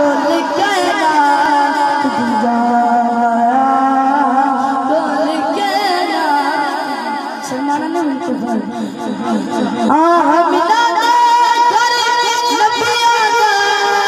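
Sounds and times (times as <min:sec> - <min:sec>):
boy singing into a microphone: 0:00.0 - 0:14.0.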